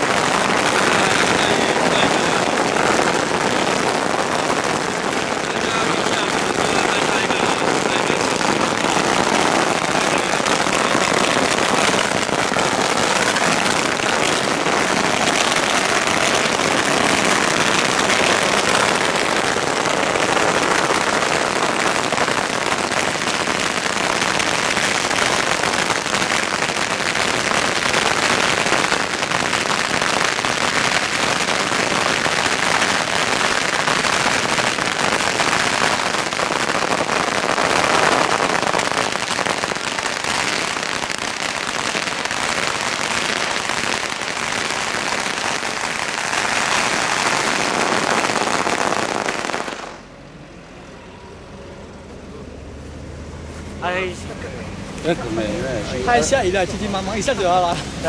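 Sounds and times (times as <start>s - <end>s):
firecrackers crackling: 0.0s - 50.1s, 53.8s - 58.0s.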